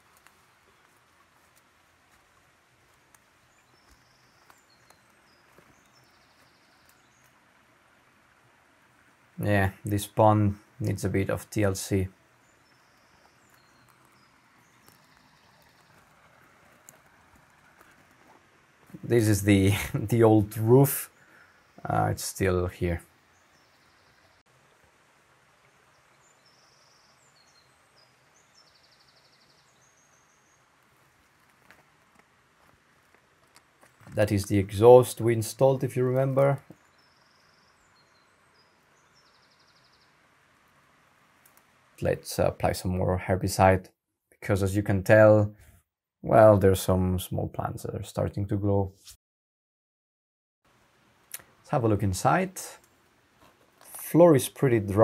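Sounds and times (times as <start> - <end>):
songbirds chirping and trilling: 0.0 - 45.4
faint birdsong: 0.0 - 48.9, 50.7 - 55.0.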